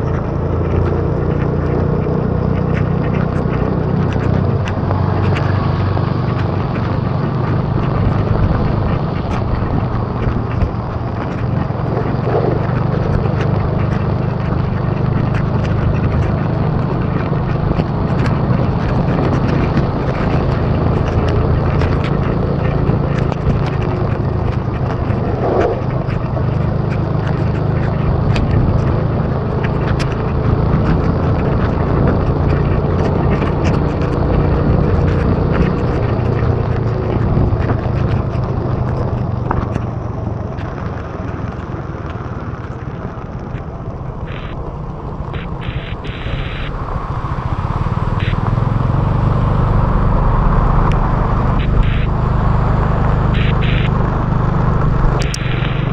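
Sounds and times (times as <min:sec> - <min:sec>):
small ticks: 0:00.0 - 0:46.7, 0:50.6 - 0:55.9
motorbike engine running: 0:00.0 - 0:55.9
wind and rain on microphone: 0:00.0 - 0:55.9.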